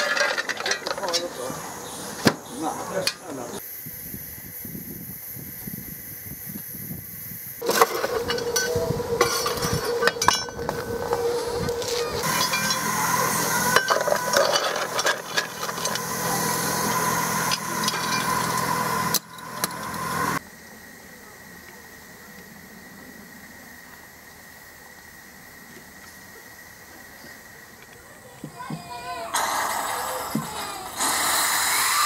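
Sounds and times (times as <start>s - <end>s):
steady low hum: 0.1s - 31.8s
steam hissing: 1.3s - 27.8s, 29.0s - 32.0s.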